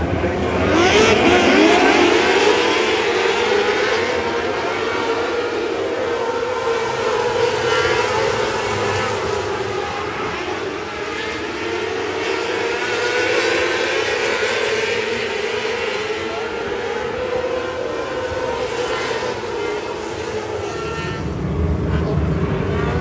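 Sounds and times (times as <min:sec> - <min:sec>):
race car engine running high: 0:00.0 - 0:23.0.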